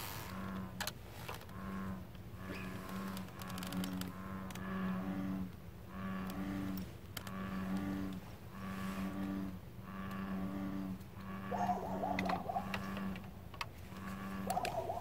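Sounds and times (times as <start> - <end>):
bullfrog calling: 1.5 - 15.0.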